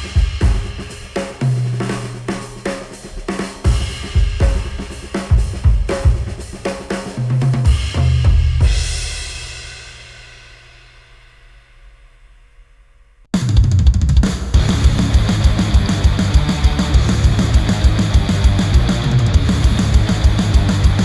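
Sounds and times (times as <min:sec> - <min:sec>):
heavy rock music with drums: 0:00.0 - 0:09.6, 0:13.4 - 0:21.0.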